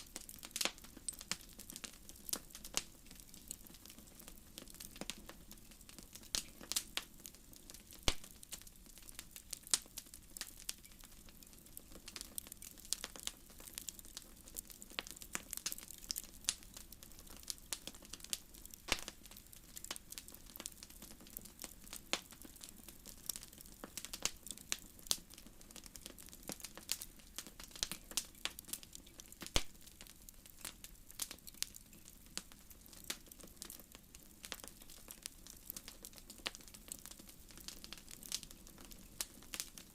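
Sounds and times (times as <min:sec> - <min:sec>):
soft steady hiss: 0:00.0 - 0:39.9
wood fire crackling: 0:00.0 - 0:39.9.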